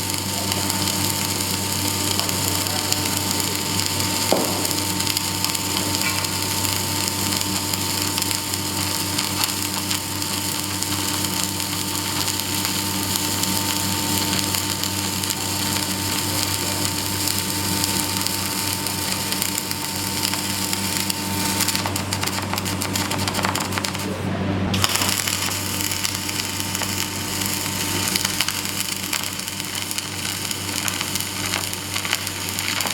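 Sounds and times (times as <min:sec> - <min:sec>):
electrical hum: 0:00.0 - 0:32.9
welding arc crackling: 0:00.0 - 0:32.9.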